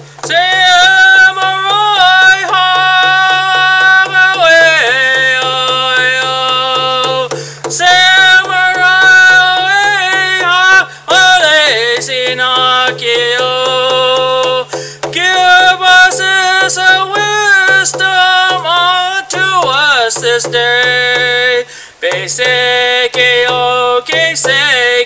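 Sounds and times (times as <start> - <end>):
man chanting wordless vocables: 0.0 - 25.0
steady percussion beat: 0.0 - 25.0.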